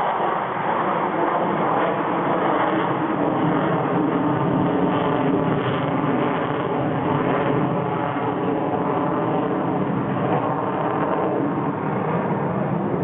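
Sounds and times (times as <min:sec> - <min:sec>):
jet engines in flight: 0:00.0 - 0:13.0.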